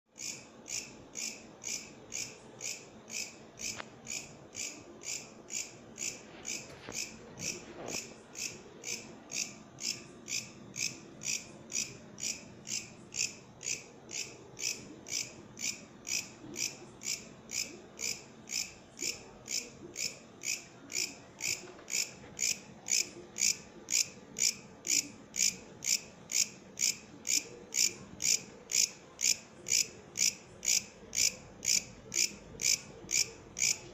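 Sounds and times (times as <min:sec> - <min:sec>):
katydid chirping: 0:00.2 - 0:33.8.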